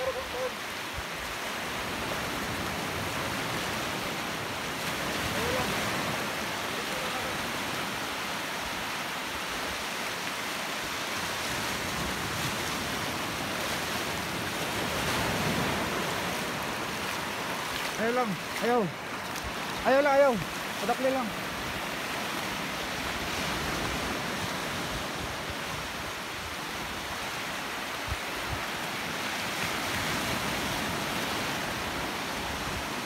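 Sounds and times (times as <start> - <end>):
small surf washing over shallows: 0.0 - 33.0.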